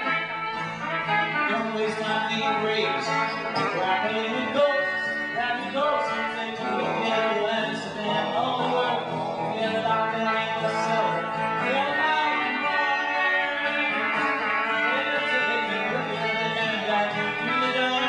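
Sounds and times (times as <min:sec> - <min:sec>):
live folk music with guitar: 0:00.0 - 0:18.0.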